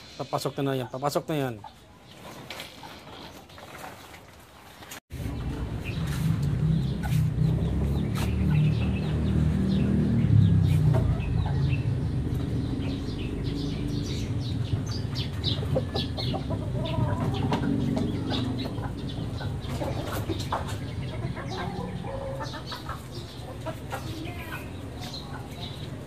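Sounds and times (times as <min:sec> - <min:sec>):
chickens clucking: 0:00.0 - 0:04.0, 0:05.2 - 0:26.0.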